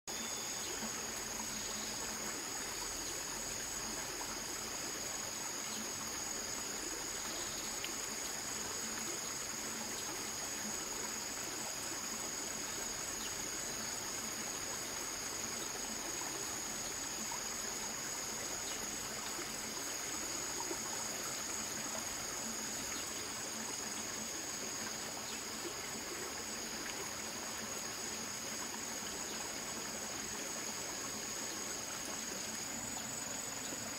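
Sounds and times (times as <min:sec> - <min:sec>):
stream water running: 0:00.0 - 0:33.9
insects chirping: 0:00.1 - 0:33.9.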